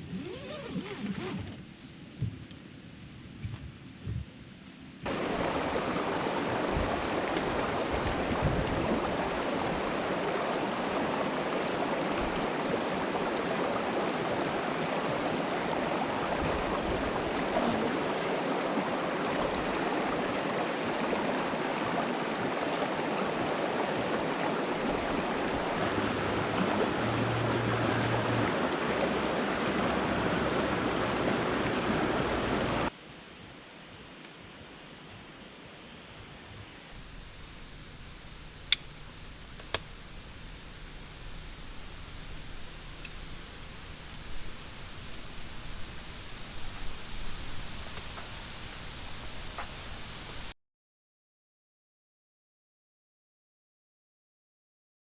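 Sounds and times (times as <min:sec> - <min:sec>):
rush of flowing water: 0:05.0 - 0:50.5.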